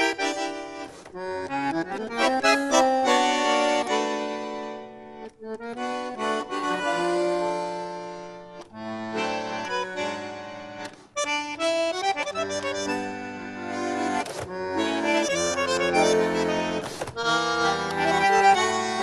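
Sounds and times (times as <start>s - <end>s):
bandoneon playing tango: 0.0s - 19.0s.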